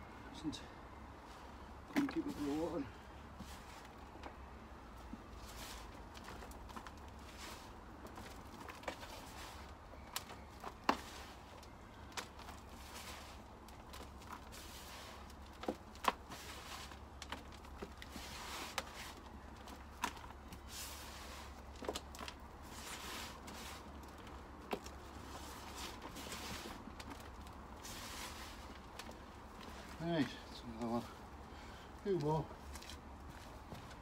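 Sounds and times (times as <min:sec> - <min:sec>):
hands rummaging through soil: 0:01.2 - 0:34.0.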